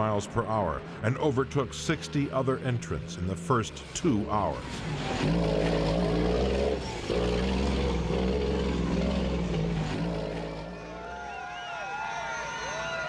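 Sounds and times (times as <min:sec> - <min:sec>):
diesel truck engine running hard: 0:00.0 - 0:11.8.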